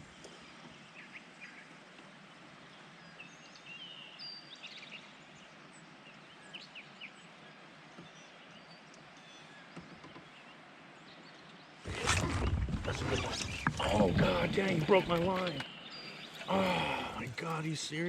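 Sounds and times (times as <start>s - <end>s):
outdoor background rush: 0.0s - 18.0s.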